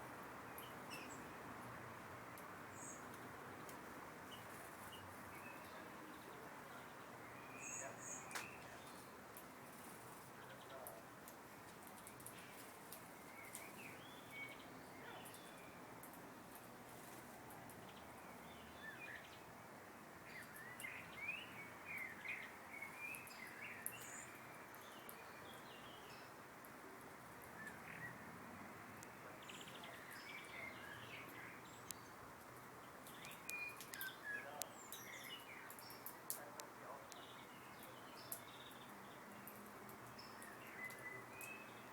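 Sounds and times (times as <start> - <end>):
faint steady hiss: 0.0 - 41.9
small birds chirping: 0.0 - 41.9.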